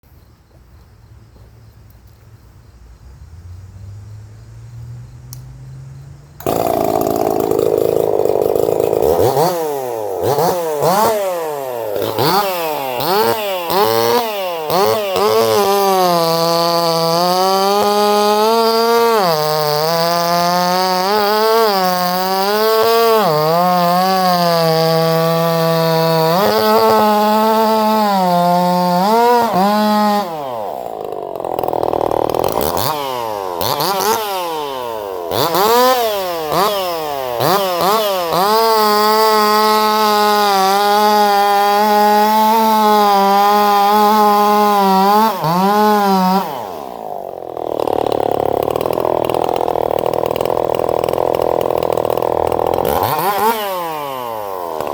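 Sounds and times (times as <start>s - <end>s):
small engine revving: 3.2s - 54.9s.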